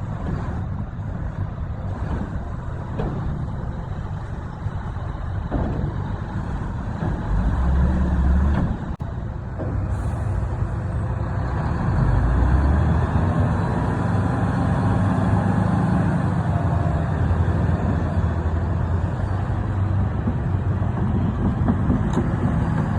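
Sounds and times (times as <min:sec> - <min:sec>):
heavy diesel engine rumbling: 0:00.0 - 0:22.9.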